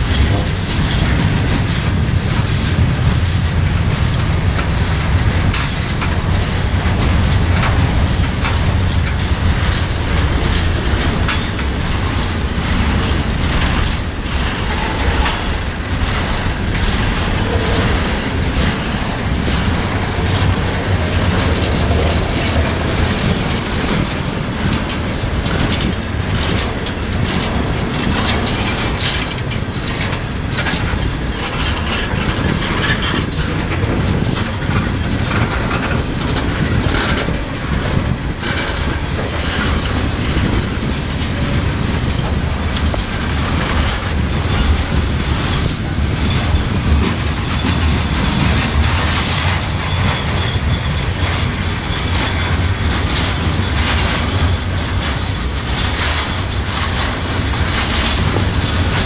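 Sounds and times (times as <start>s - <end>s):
train wheels rumbling on rail: 0.0s - 59.0s
wheels clicking over rail joints: 0.0s - 59.0s.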